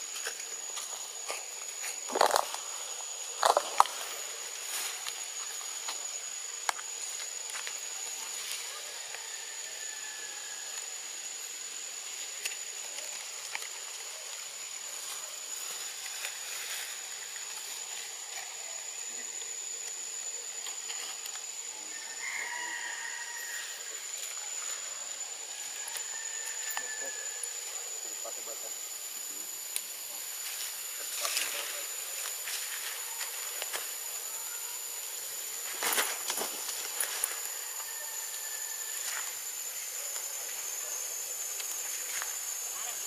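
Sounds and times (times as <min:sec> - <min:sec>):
high-pitched insect whine: 0:00.0 - 0:43.0.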